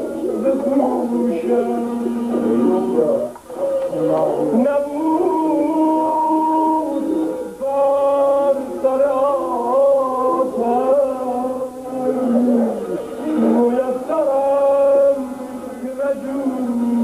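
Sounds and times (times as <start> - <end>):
devotional chant singing: 0.0 - 17.0.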